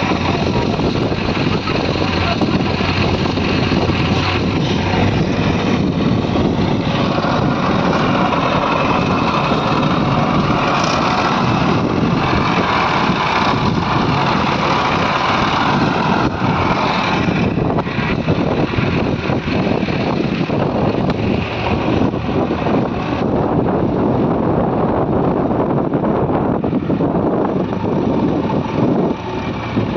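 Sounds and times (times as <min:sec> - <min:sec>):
diesel engines running under load: 0:00.0 - 0:29.9.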